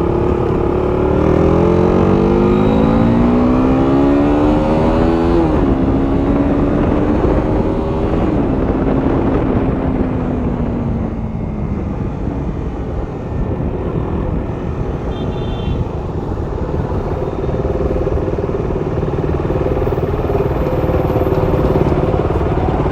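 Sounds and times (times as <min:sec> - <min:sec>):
motorcycle engine: 0:00.0 - 0:22.9
rushing wind noise: 0:00.0 - 0:22.9.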